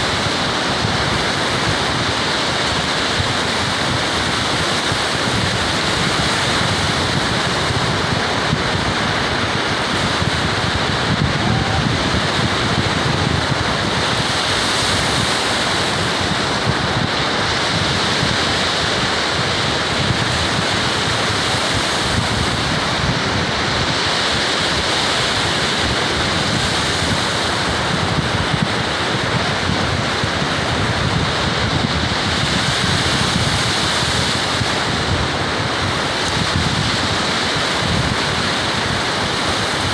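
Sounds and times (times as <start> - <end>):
ocean waves breaking: 0.0 - 39.9
wind blowing across microphone: 0.0 - 39.9.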